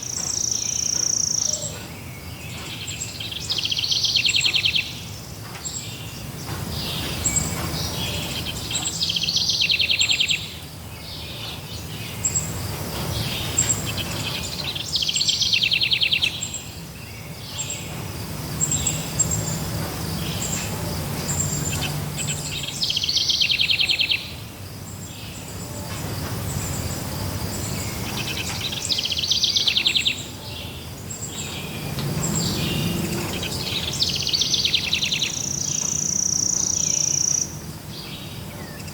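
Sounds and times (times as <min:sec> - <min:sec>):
buzzy trilled birdsong: 0:00.0 - 0:38.9
low steady background noise: 0:00.0 - 0:38.9.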